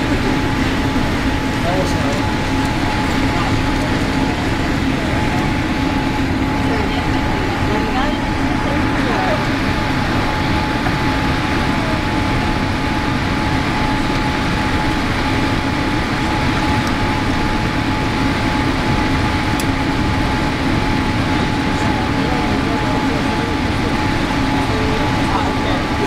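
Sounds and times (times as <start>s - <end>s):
airplane cabin engine rush: 0.0s - 26.0s.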